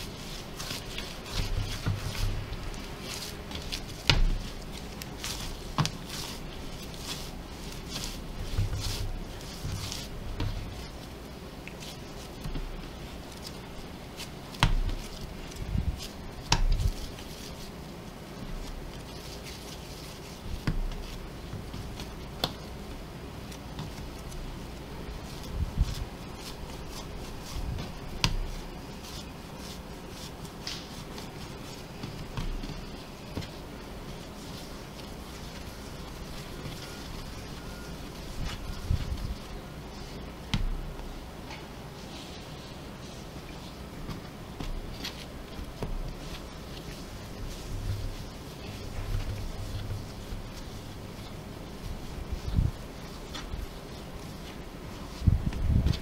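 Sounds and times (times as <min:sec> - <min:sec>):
dough slapping on wooden board: 0:00.0 - 0:17.8, 0:18.4 - 0:39.5, 0:40.4 - 0:41.1, 0:43.9 - 0:56.0
steady low hum: 0:00.0 - 0:56.0.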